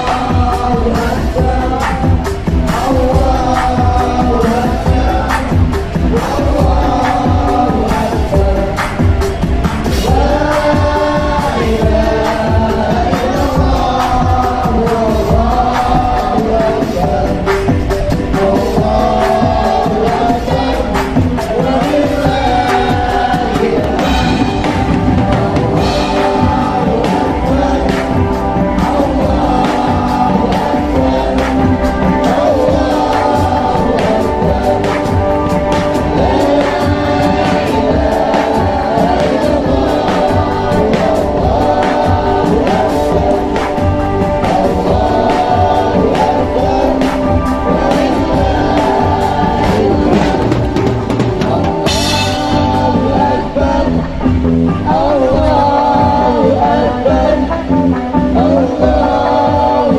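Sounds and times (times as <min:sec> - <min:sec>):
group vocals singing: 0:00.0 - 0:59.9
guitar: 0:00.0 - 0:59.9
lead voice singing: 0:00.0 - 0:59.9
percussion steady beat: 0:00.0 - 0:59.9.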